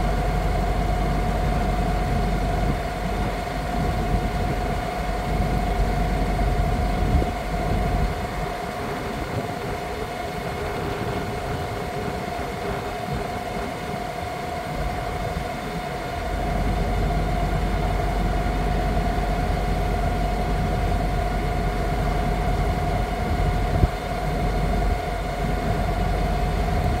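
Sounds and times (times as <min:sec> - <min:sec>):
vacuum truck pump whining: 0:00.0 - 0:27.0.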